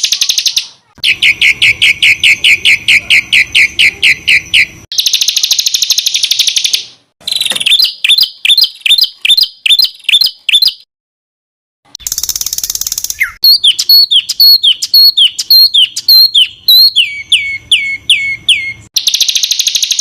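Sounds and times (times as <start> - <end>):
sharp clicky bird notes: 0.0 - 10.8, 11.9 - 20.0
buzzy bird trill: 0.0 - 10.9, 12.0 - 20.0
down-slurred whistled bird notes: 0.0 - 10.9, 12.0 - 20.0.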